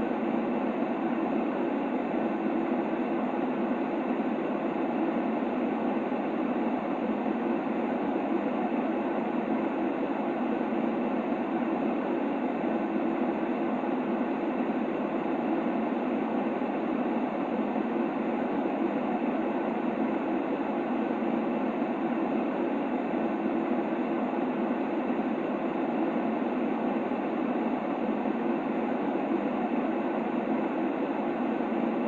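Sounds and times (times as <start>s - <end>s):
steady white noise: 0.0s - 32.0s.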